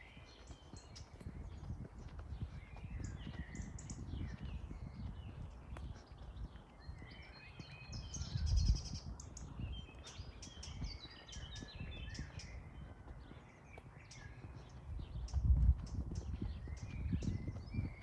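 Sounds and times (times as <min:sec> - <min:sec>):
footsteps walking: 0:00.0 - 0:08.2, 0:09.2 - 0:18.0
songbirds chirping and singing: 0:00.0 - 0:18.0.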